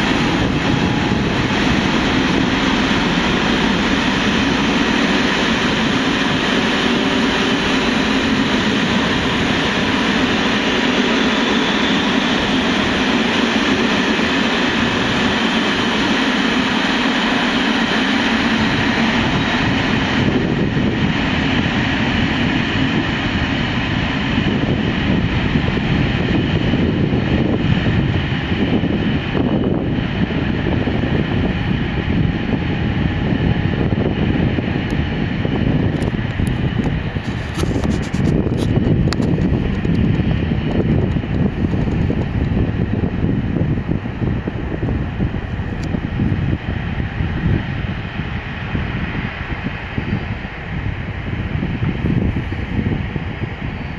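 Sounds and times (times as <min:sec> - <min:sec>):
coaches running over rails: 0:00.0 - 0:53.9
diesel locomotive engine: 0:00.0 - 0:53.9.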